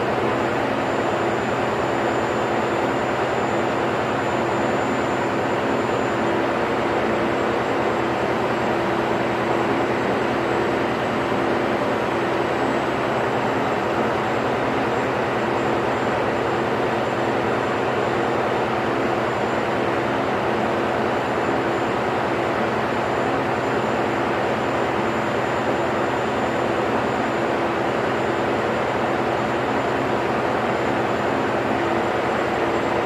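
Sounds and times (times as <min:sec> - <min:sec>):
engine-room machinery droning: 0:00.0 - 0:33.0.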